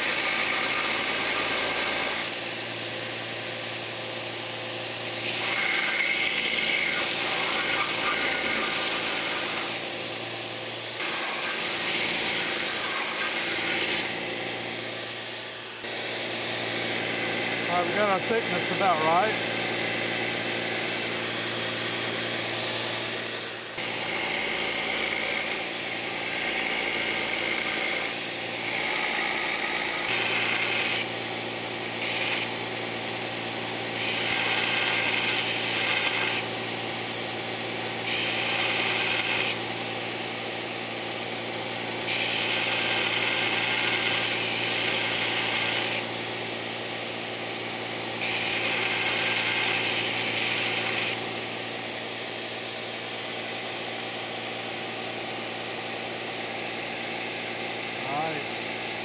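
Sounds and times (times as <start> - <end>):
belt sander humming: 0.0 - 59.0.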